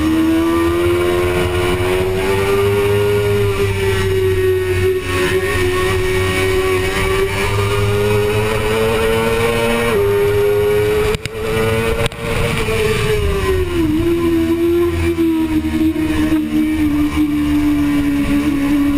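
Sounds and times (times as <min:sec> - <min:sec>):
motorcycle engine at racing speed: 0:00.0 - 0:18.9.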